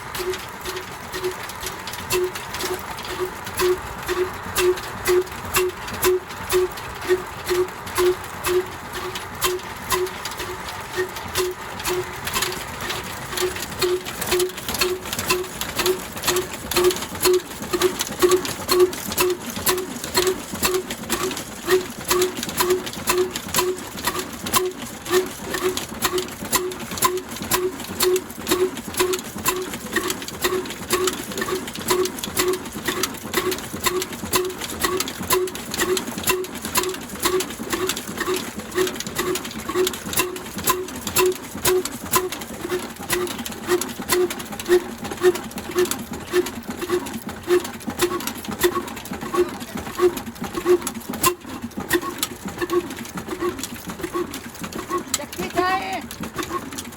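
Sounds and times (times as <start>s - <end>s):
diesel engine exhaust beating: 0.0s - 55.0s
sharp mechanical clicks: 0.1s - 56.9s.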